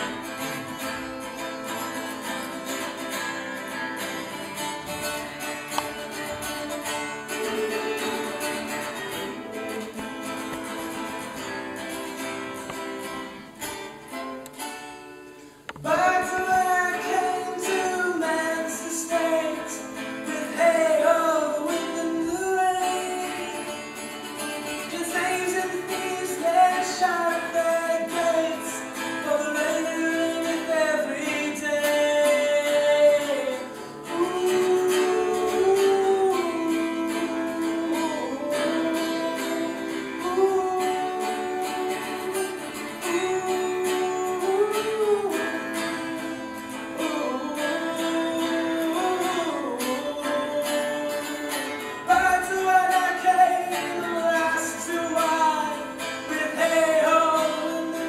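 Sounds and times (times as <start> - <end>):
guitar: 0.0 - 58.0
person singing folk song: 0.0 - 58.0.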